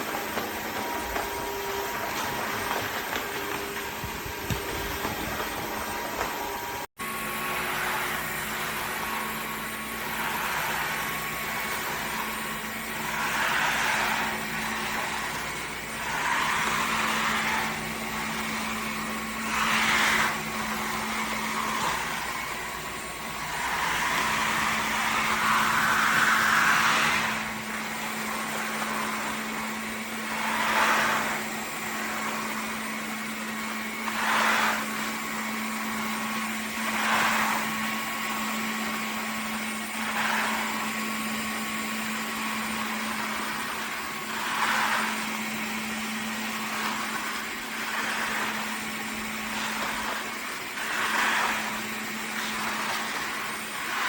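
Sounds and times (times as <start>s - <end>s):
vacuum hiss: 0.0s - 54.0s
vacuum mop motor hum: 0.0s - 54.0s.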